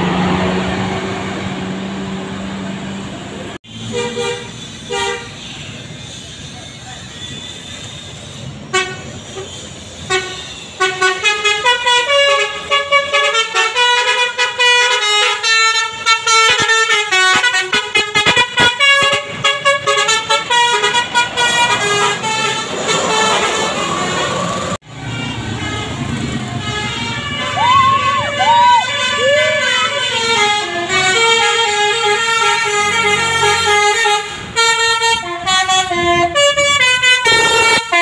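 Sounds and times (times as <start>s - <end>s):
bus engine running: 0.0s - 38.0s
multi-tone bus horn melody: 3.6s - 38.0s.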